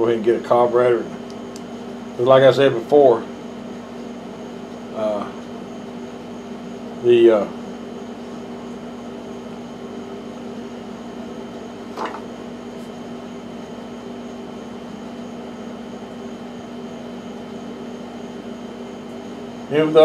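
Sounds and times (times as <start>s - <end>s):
mechanical equipment hum: 0.0s - 20.0s.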